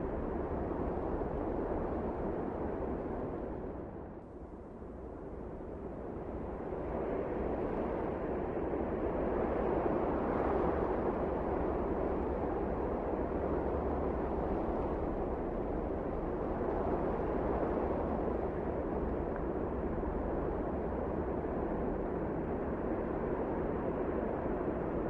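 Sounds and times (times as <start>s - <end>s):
steady wind blowing: 0.0s - 25.0s.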